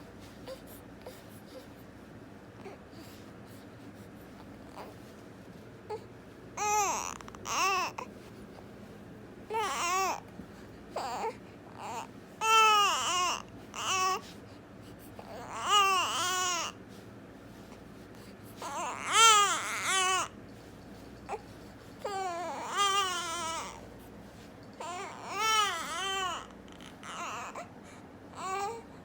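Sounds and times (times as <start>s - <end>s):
newborn baby fussing and crying: 0.1s - 29.0s.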